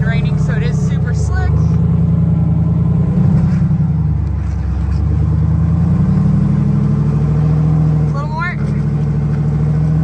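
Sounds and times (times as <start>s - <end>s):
engine deep rumble at low revs: 0.0s - 10.0s.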